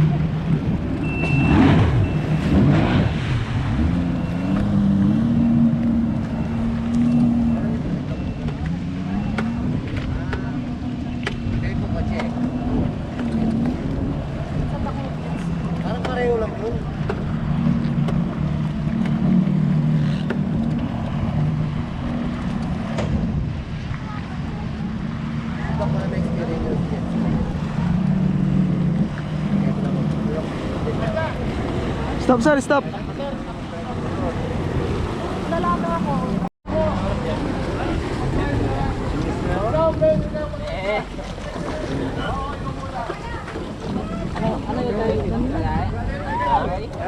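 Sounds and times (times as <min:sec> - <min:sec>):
water noise: 0:00.0 - 0:47.0
watercraft engine running: 0:00.0 - 0:47.0
wind: 0:00.0 - 0:47.0.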